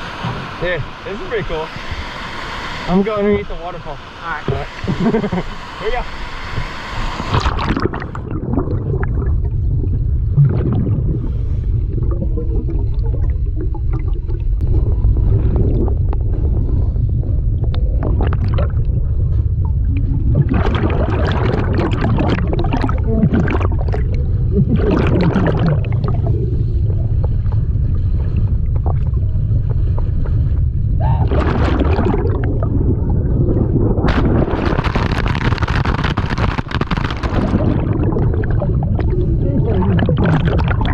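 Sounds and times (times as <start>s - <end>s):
bubbling and gurgling bursts: 0.0s - 40.9s
underwater waterfall rumble: 0.0s - 40.9s.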